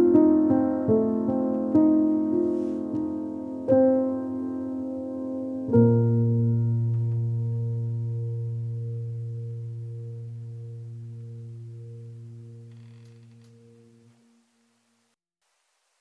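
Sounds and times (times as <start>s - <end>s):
low piano chord ringing: 0.0s - 14.3s.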